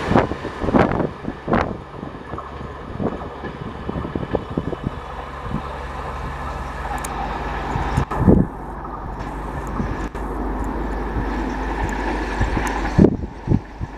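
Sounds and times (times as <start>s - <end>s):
train wheels rumbling on rail: 0.0s - 13.9s.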